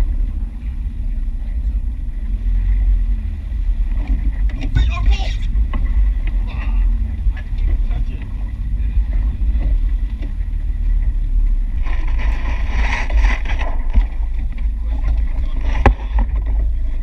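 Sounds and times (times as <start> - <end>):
boat running on swell: 0.0 - 17.0
rush of noise: 0.0 - 17.0
wind buffeting microphone: 0.0 - 17.0.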